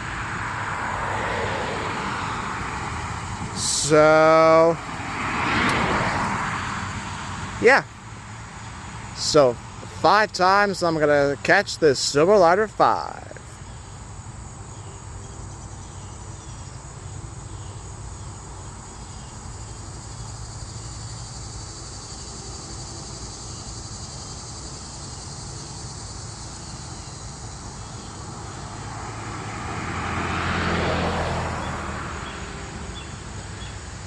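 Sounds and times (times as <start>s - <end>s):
distant traffic hum: 0.0s - 34.0s
insects chirring: 0.0s - 34.0s
vehicle passing: 0.0s - 34.0s.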